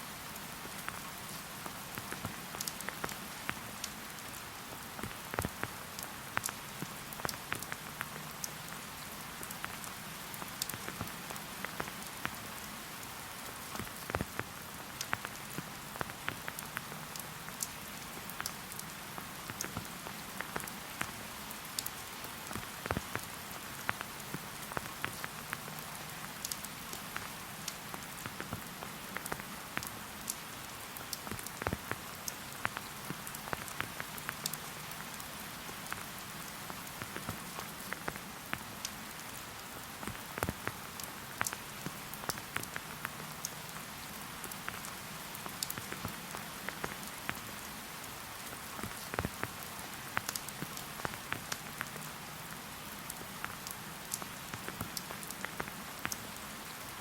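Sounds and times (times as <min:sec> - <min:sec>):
rain hissing in a forest: 0:00.0 - 0:57.0
single raindrops striking close by: 0:00.2 - 0:56.8.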